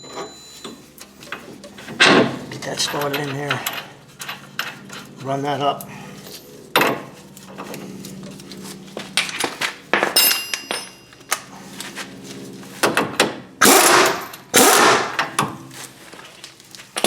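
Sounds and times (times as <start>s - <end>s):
steady hum: 0.6s - 17.0s.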